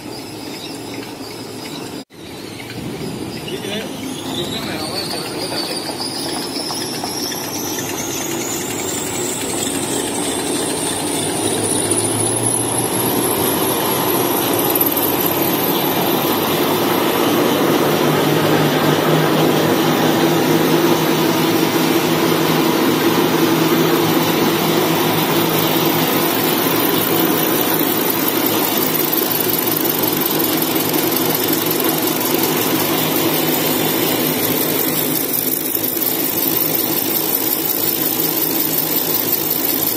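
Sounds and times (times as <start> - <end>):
machine din with high whine: 0.0 - 39.9.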